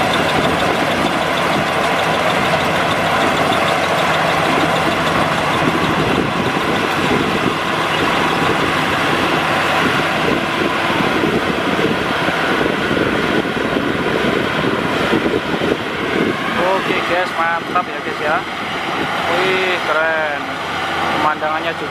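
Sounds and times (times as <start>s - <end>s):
combine harvester running: 0.0s - 21.9s.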